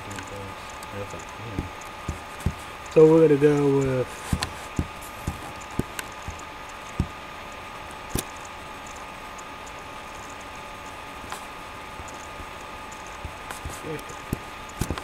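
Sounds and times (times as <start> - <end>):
background hiss: 0.0 - 15.0
faint steady whine: 0.0 - 15.0
scattered clicks and knocks: 0.0 - 15.0.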